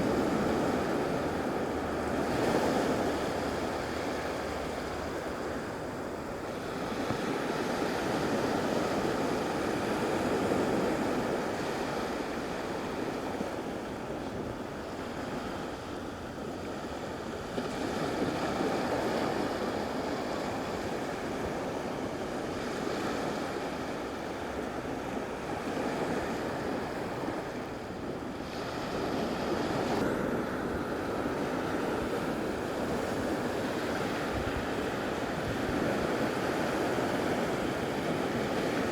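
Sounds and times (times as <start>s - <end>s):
surf washing onto beach: 0.0s - 38.9s.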